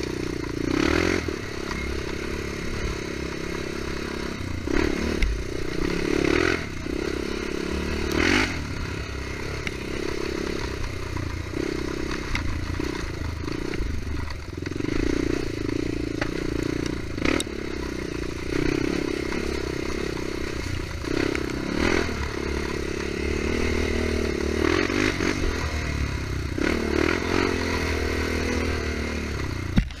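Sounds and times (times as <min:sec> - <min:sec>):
atv engine running and revving: 0:00.0 - 0:30.0.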